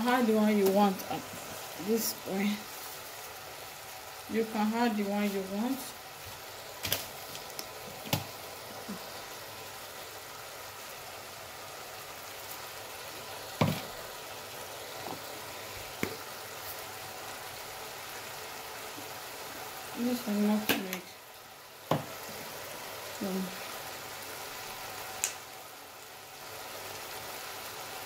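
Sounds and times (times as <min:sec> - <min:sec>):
food simmering and sizzling in pot: 0:00.0 - 0:28.0.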